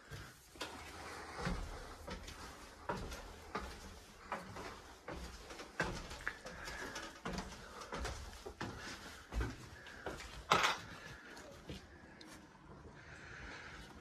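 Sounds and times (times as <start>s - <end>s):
footsteps on stair treads: 0.0s - 12.8s.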